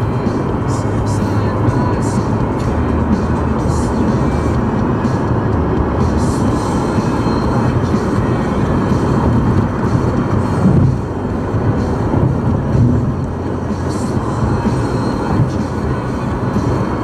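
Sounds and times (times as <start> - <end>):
road and tyre rumble in car: 0.0 - 17.0.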